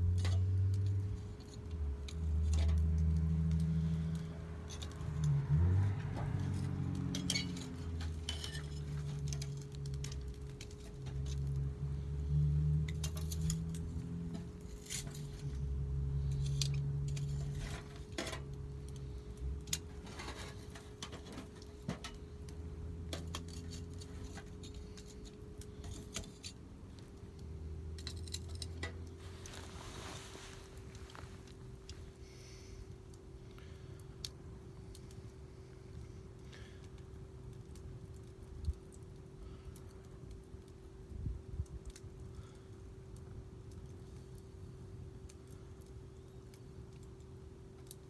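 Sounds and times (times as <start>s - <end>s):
faint steady hum: 0.0s - 48.0s
wood fire crackling and popping: 0.0s - 48.0s.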